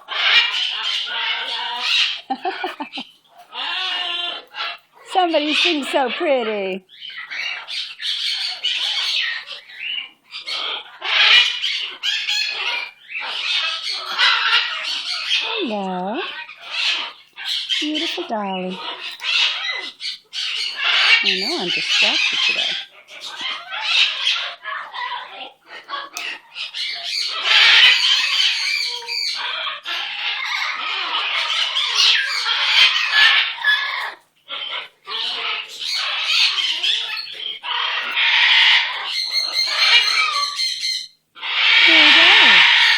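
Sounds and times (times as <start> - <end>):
parrot singing and chattering: 0.0 - 42.9.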